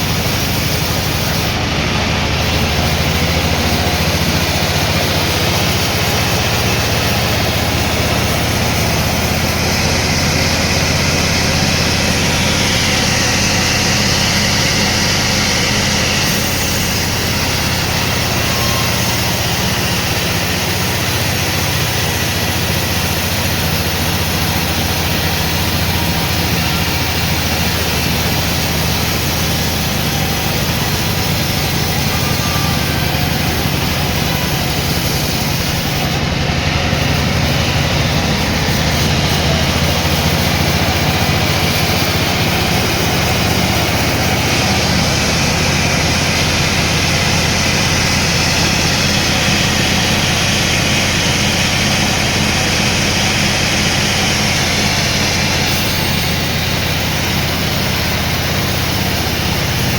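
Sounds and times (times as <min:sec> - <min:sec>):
sawmill machinery hum: 0:00.0 - 0:59.9.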